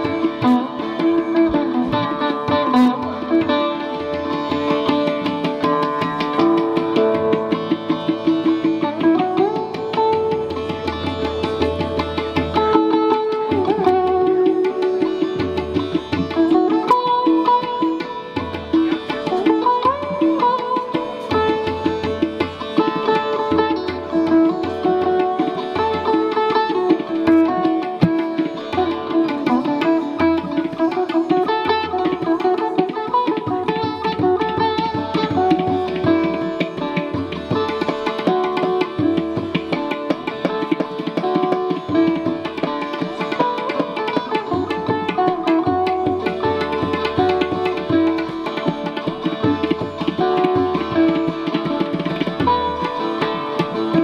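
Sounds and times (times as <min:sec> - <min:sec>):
sitar playing: 0:00.0 - 0:54.0.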